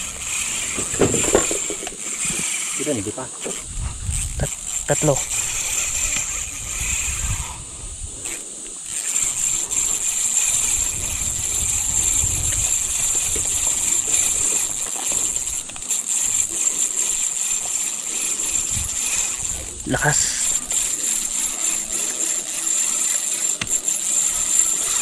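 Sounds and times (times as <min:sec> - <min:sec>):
fishing reel drag buzzing: 0:00.0 - 0:25.0.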